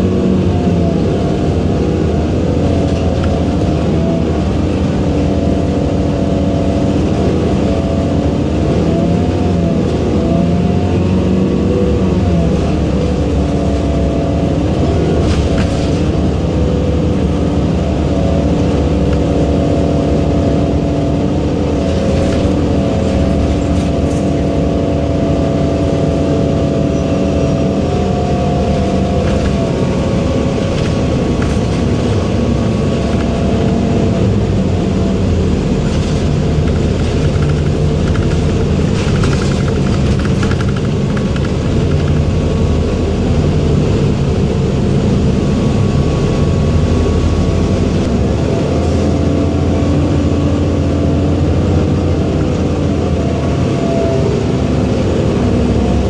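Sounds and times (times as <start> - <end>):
bus engine droning: 0.0 - 56.0
road rumble: 0.0 - 56.0.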